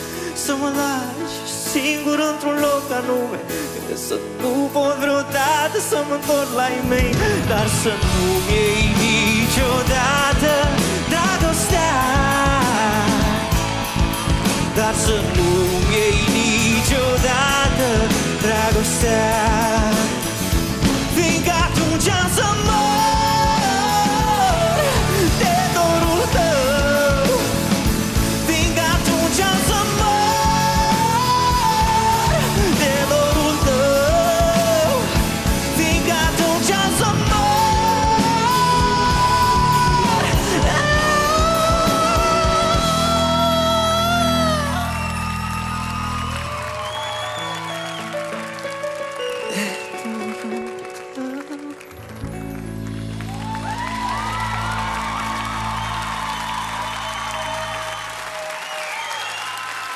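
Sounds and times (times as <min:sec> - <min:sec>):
man singing: 0:00.0 - 0:45.5, 0:49.4 - 0:52.4
rock band playing ballad: 0:00.0 - 0:59.9.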